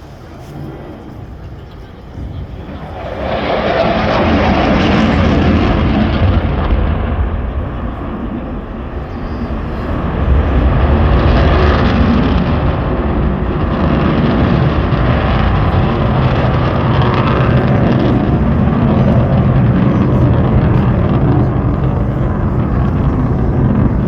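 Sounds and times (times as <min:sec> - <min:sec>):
aircraft engine rush: 0:00.0 - 0:24.0.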